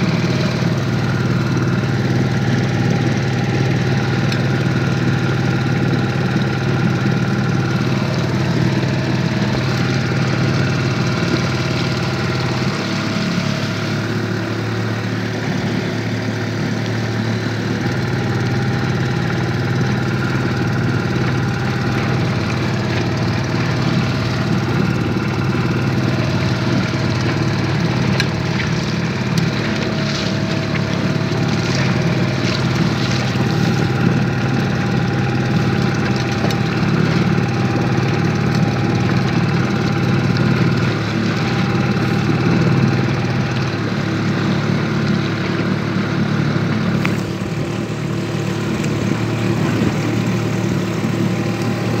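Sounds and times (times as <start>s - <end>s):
outboard motor running: 0.0s - 52.0s.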